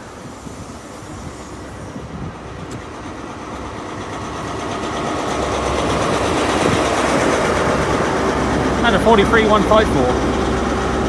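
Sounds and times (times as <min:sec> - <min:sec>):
diesel train engine: 0:00.0 - 0:11.0
train wheel noise: 0:00.0 - 0:11.0.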